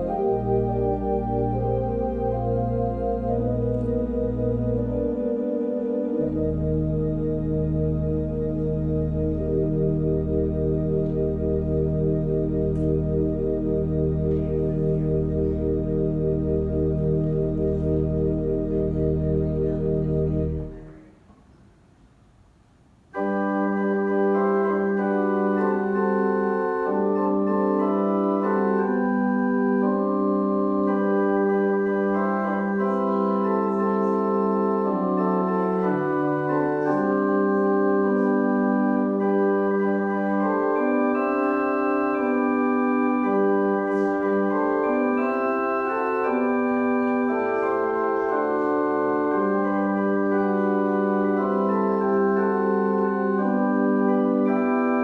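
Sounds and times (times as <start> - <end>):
church organ chords: 0.0 - 21.2, 23.1 - 55.0.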